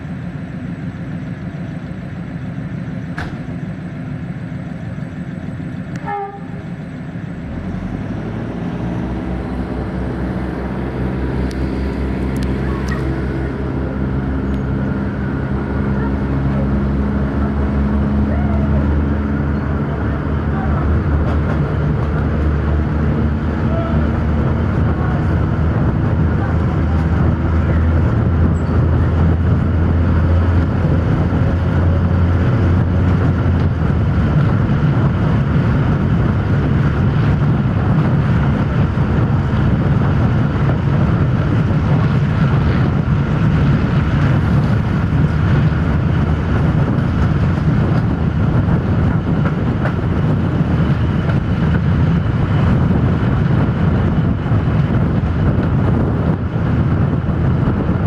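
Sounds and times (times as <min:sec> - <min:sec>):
diesel railcar engine drone: 0:00.0 - 0:58.0
train wheel noise: 0:00.0 - 0:58.0
wind noise: 0:07.5 - 0:58.0.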